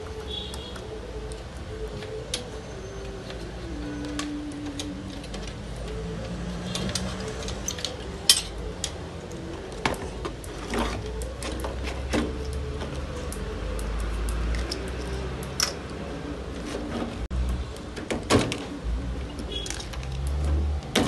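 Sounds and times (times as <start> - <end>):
wire connectors clicking: 0.0 - 16.0, 17.5 - 21.0.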